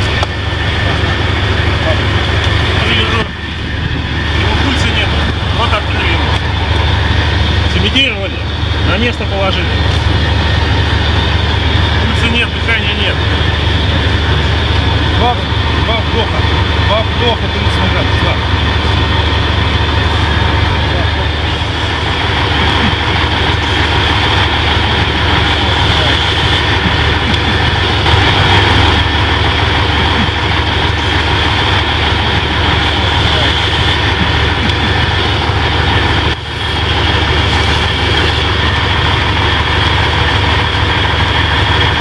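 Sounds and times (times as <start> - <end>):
heavy machinery drone: 0.0 - 42.0
high whine: 0.0 - 42.0.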